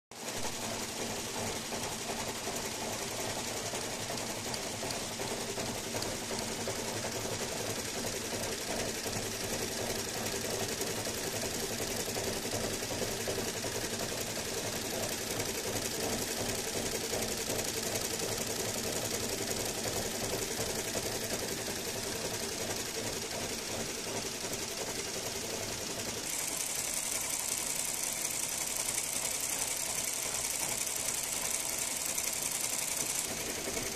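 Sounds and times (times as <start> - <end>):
embroidery machine stitching: 0.2 - 33.9.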